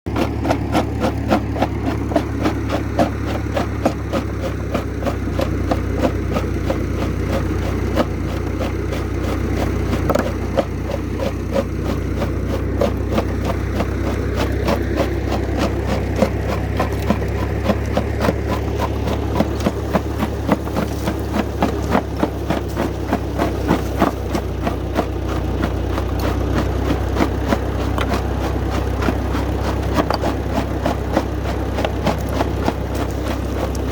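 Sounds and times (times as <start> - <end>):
tractor engine running: 0.0 - 33.9
rock crusher knocking and cracking: 0.1 - 33.9.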